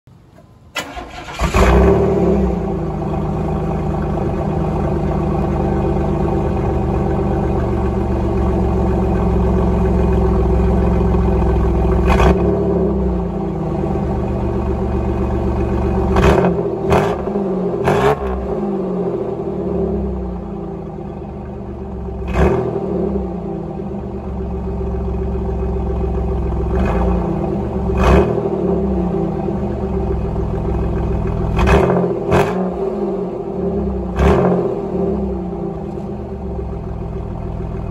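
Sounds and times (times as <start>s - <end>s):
car exhaust idling: 0.1s - 37.9s.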